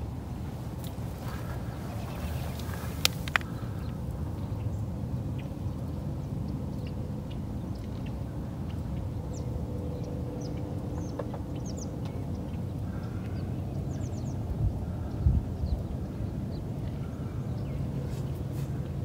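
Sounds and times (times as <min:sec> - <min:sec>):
low rumble with faint hum: 0:00.0 - 0:19.0
small birds chirping: 0:00.6 - 0:06.0, 0:06.7 - 0:19.0.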